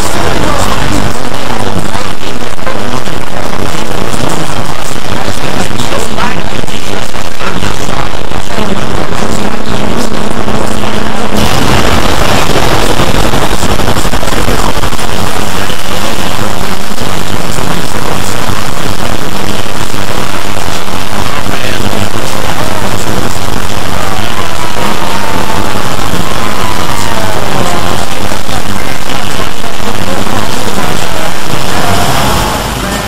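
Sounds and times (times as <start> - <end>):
cartoon voices: 0.0 - 33.0
distorted music: 0.0 - 33.0.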